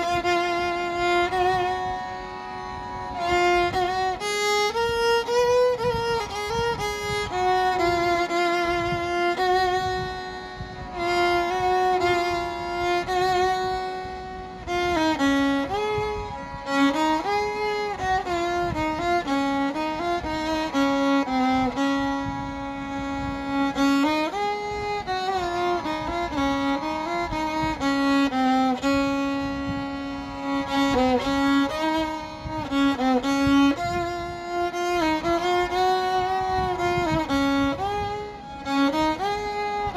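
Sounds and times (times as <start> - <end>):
solo violin slow melody: 0.0 - 39.9.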